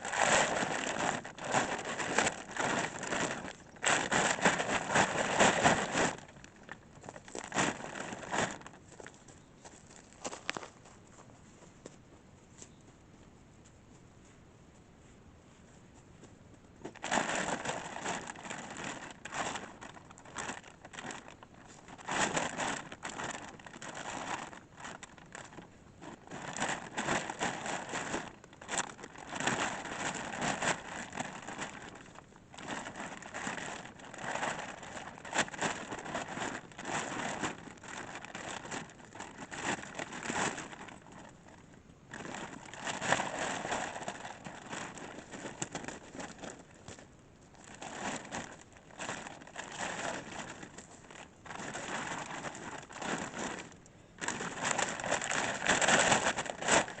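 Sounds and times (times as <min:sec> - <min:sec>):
material rustling and crinkling: 0:00.0 - 0:12.8, 0:13.6 - 0:57.0.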